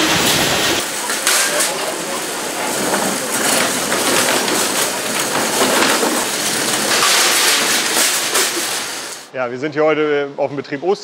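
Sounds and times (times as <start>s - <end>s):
wire cages rattling on concrete: 0.0s - 9.3s.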